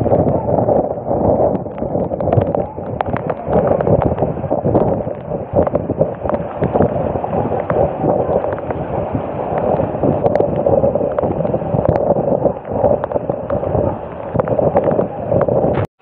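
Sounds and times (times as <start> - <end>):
people wading through water: 0.0 - 15.8
storm wind on microphone: 0.0 - 15.9.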